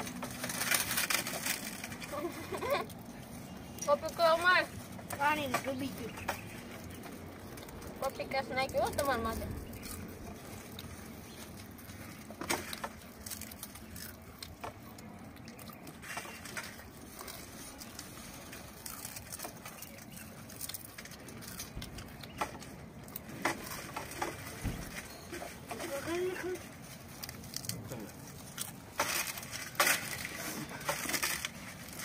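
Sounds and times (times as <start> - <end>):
crisps being crunched and chewed: 0.0 - 32.0.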